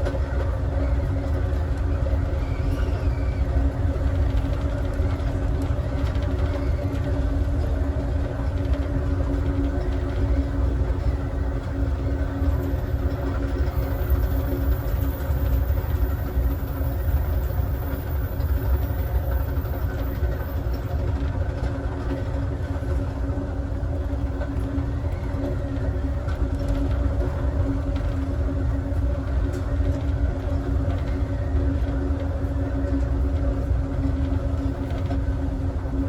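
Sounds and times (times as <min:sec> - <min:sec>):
constant hum: 0:00.0 - 0:36.0
train wheels rumbling on rail: 0:00.0 - 0:36.0.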